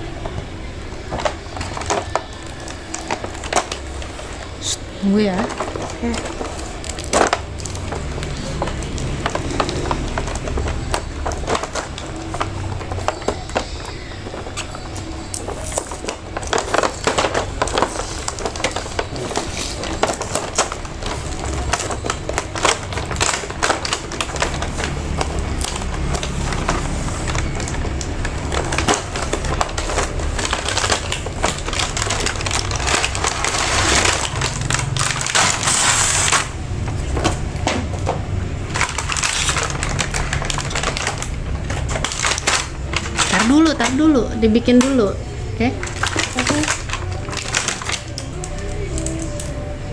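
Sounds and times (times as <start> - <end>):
harsh crackling: 0.0 - 49.9
packaging crinkling and rustling: 0.0 - 49.9.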